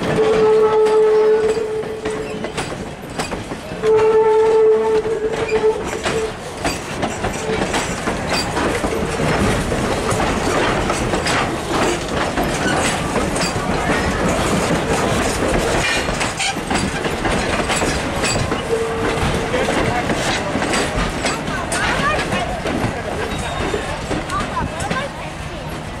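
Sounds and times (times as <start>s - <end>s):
train wheels clicking over rail joints: 0.0s - 26.0s.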